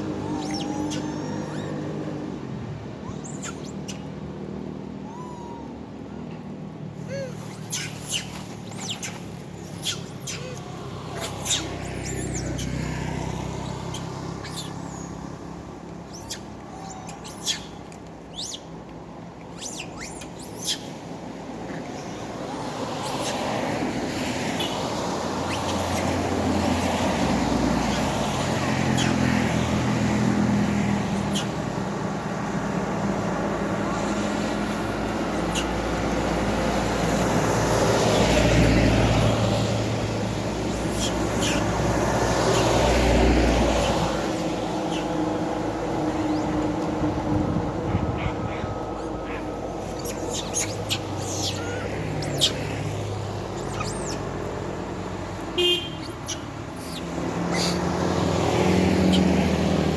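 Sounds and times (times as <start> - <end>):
monkeys squeaking: 0.0 - 5.9, 7.0 - 21.0, 21.8 - 23.6, 24.4 - 32.0, 33.8 - 37.2, 38.1 - 47.0, 47.6 - 54.7, 55.4 - 57.9, 58.5 - 59.9
road traffic noise: 0.0 - 59.9.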